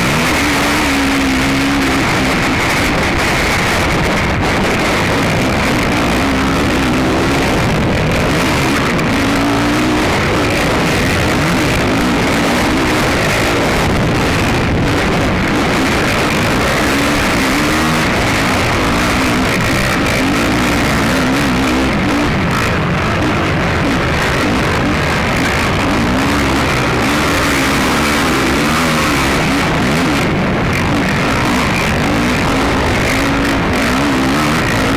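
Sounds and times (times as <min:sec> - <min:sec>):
atv engine revving: 0:00.0 - 0:34.9
rushing noise: 0:00.0 - 0:34.9.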